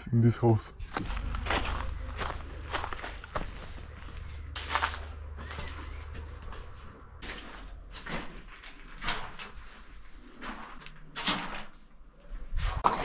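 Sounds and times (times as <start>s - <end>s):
footsteps crunching on rubble: 0.8s - 13.0s.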